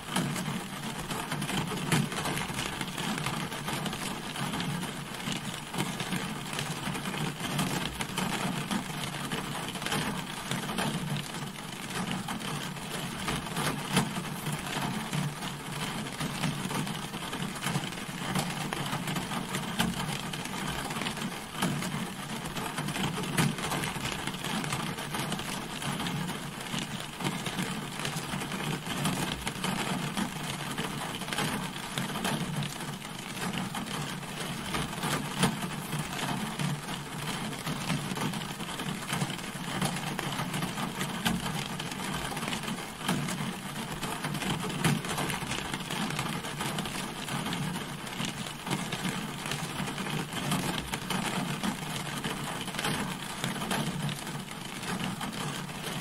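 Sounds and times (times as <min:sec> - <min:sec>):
rain falling on a car: 0:00.0 - 0:56.0.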